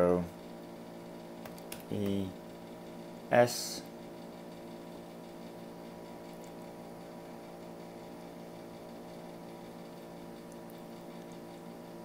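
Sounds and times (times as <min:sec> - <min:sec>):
low electrical hum with hiss: 0:00.0 - 0:12.0.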